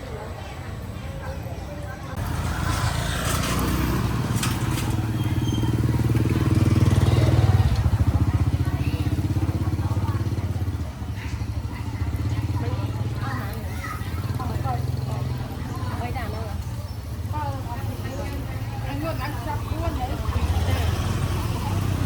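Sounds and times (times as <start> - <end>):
motorbike engine running: 2.2 - 22.0.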